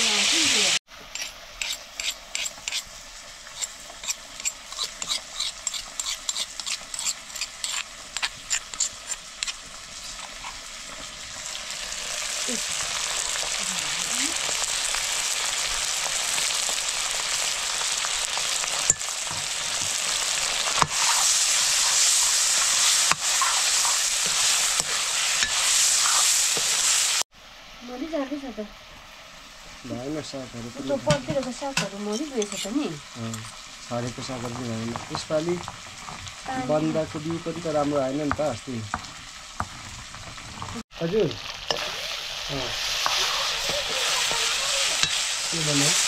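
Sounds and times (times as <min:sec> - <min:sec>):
food sizzling in a pan: 0:00.0 - 0:46.0.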